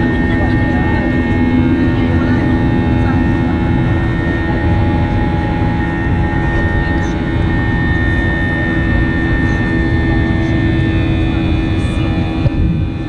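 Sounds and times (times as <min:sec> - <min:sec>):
constant engine whine: 0:00.0 - 0:13.0
jet engine cabin noise: 0:00.0 - 0:13.0.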